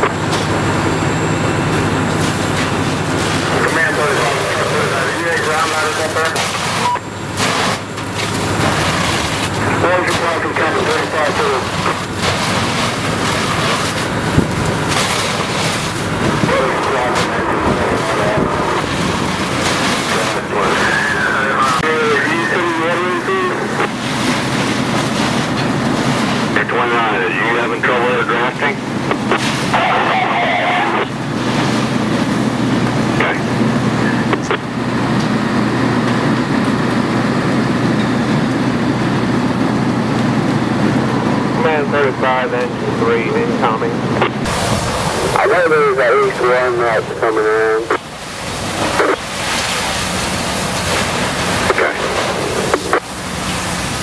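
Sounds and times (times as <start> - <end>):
hose stream spraying water: 0.0 - 43.8, 44.4 - 54.0
heavy engine running: 0.0 - 54.0.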